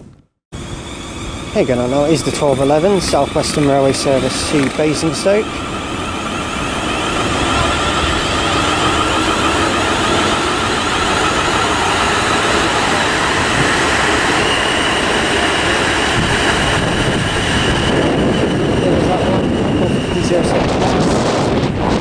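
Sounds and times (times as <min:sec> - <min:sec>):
train motor whine: 0:00.5 - 0:21.7
train wheels on rail: 0:00.6 - 0:22.0.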